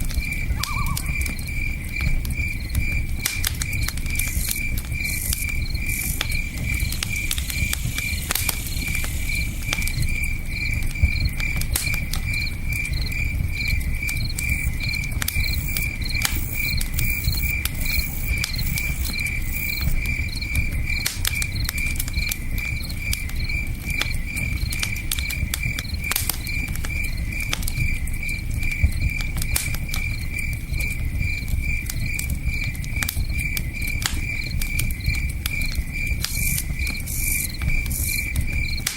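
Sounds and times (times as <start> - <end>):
campfire crackling: 0.0 - 38.9
cricket chirping: 0.0 - 38.9.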